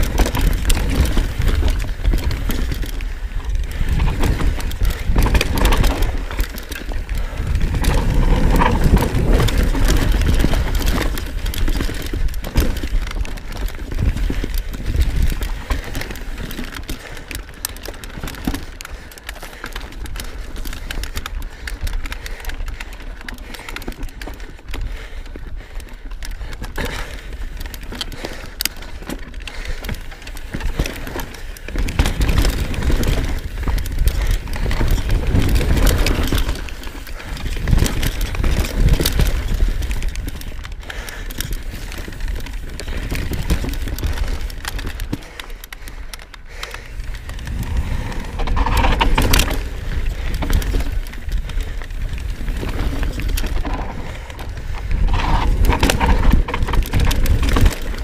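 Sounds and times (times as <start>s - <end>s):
wind rumbling on microphone: 0.0s - 19.1s, 19.7s - 58.0s
bike rattling over bumps: 0.0s - 58.0s
bike tyres rolling over dirt: 0.0s - 58.0s.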